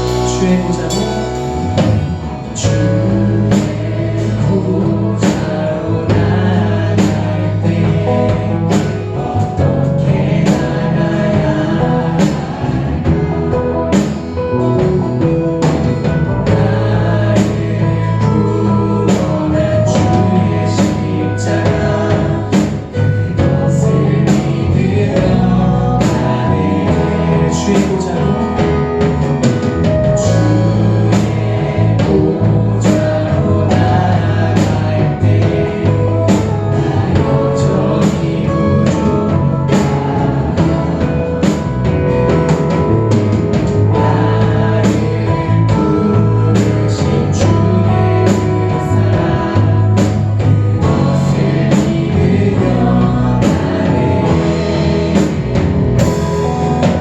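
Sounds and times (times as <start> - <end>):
bass guitar: 0.0 - 57.0
drum kit beat: 0.0 - 57.0
guitar: 0.0 - 57.0
person singing: 0.0 - 57.0
worship band playing: 0.0 - 57.0.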